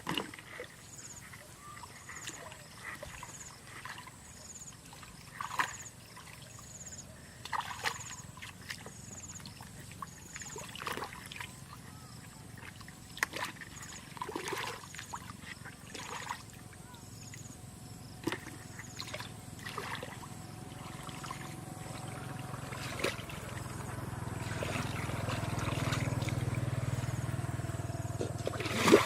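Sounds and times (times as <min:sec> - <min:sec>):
water splashing and sloshing: 0:00.0 - 0:29.0.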